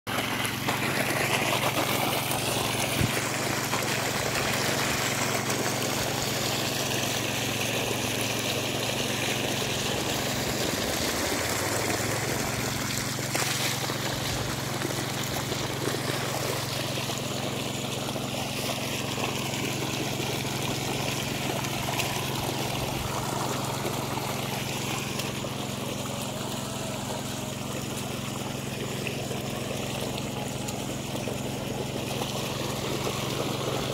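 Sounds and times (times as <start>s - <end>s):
low motor hum: 0.1s - 33.9s
water gushing onto soil: 0.1s - 33.9s.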